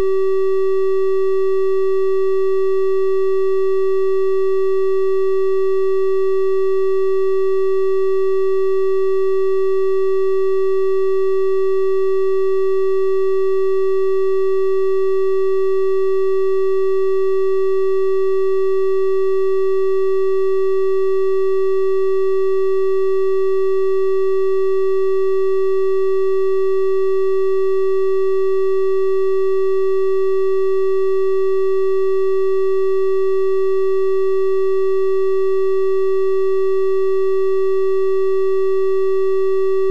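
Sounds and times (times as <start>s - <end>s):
steady triangle-wave tone: 0.0s - 39.9s.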